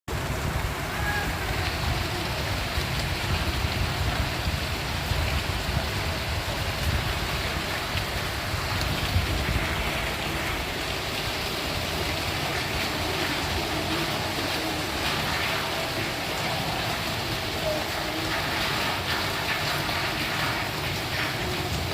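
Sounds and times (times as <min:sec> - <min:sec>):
steady rain falling: 0:00.1 - 0:21.9.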